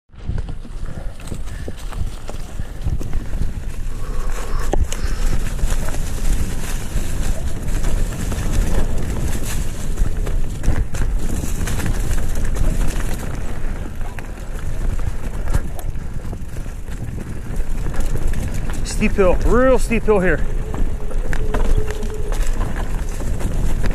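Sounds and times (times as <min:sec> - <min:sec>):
bike drivetrain rattle: 0:00.1 - 0:23.9
bike tyres crunching leaves: 0:00.1 - 0:23.9
wind buffeting microphone: 0:00.1 - 0:23.9
bike knocking on rocks: 0:04.7 - 0:23.9.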